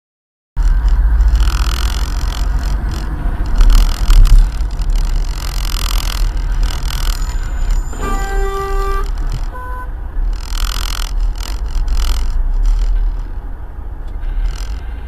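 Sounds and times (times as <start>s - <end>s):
car engine rumble: 0.6s - 15.0s
road noise: 0.6s - 15.0s.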